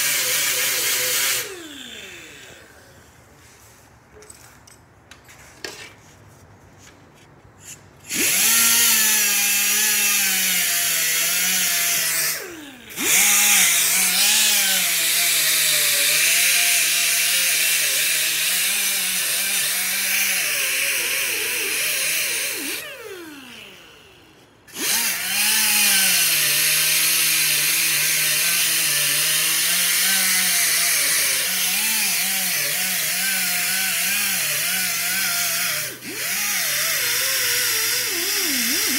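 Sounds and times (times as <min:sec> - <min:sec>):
air die grinder on metal: 0:00.0 - 0:02.9, 0:07.6 - 0:24.0, 0:24.7 - 0:38.9.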